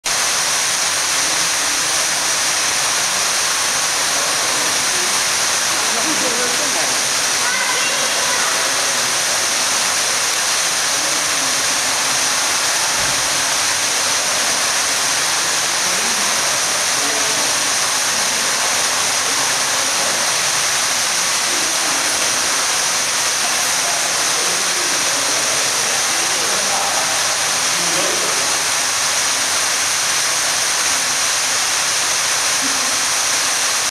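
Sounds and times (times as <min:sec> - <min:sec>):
loud rushing hiss: 0:00.1 - 0:33.9.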